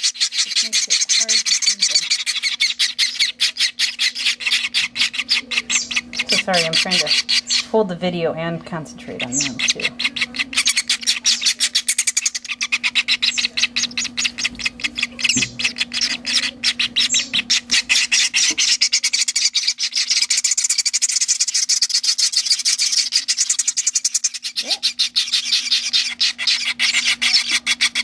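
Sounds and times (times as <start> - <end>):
baby birds raspy begging chatter: 0.0 - 28.0
faint low hum: 0.0 - 28.0.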